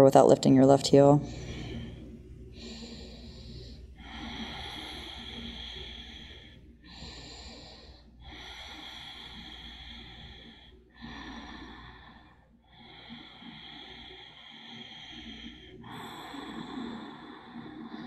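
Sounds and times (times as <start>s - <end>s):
person breathing through nose: 1.3s - 18.0s.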